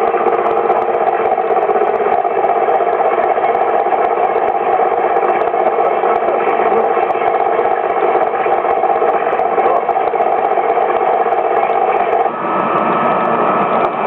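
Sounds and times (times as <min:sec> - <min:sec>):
steady mechanical drone: 0:00.0 - 0:14.0.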